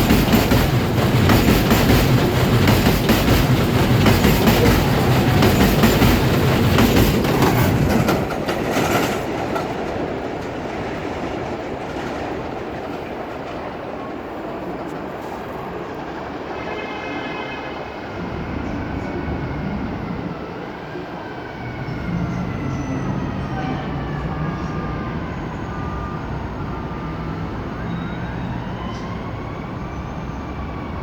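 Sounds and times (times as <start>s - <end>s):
subway train rumbling: 0.0s - 31.0s.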